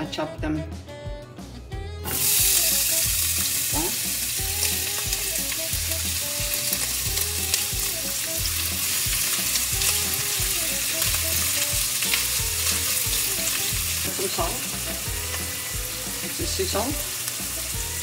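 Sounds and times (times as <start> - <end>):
onions sizzling in oil: 2.0 - 18.0.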